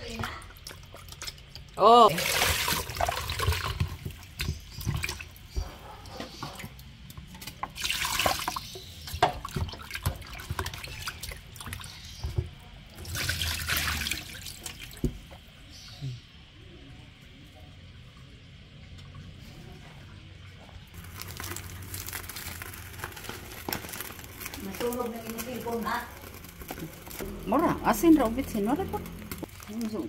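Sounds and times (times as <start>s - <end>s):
tap water running and splashing: 0.0s - 5.7s, 6.3s - 15.8s, 20.9s - 30.0s.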